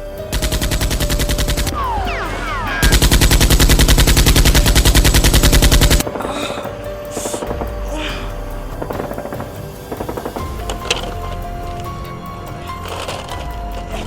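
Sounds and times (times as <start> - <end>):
falling whistling tones: 0.0 - 14.0.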